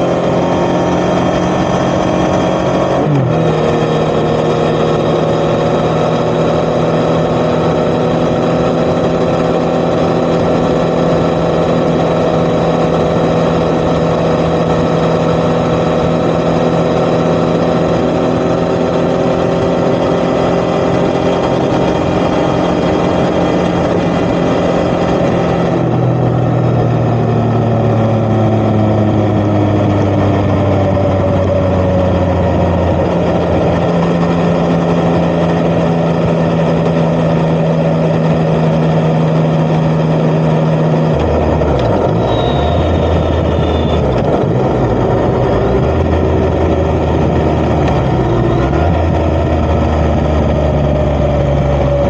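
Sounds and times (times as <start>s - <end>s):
motorcycle engine: 0.0s - 52.0s
wind and road noise: 0.0s - 52.0s.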